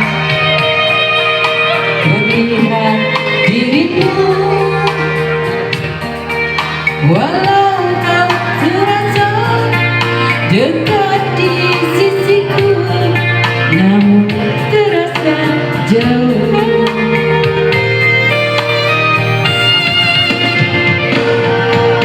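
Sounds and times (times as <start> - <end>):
woman singing: 0.0 - 5.8, 7.0 - 22.0
instrumental backing music: 0.0 - 22.0.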